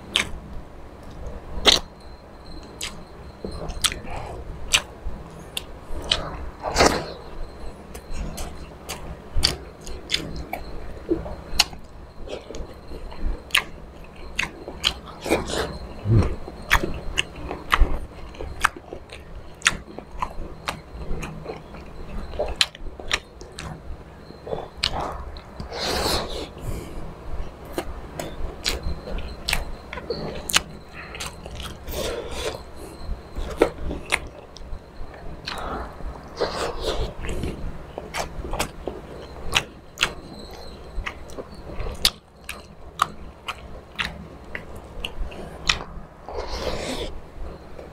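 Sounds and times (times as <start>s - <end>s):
close chewing and lip-smacking: 0.1s - 0.4s, 1.0s - 47.1s.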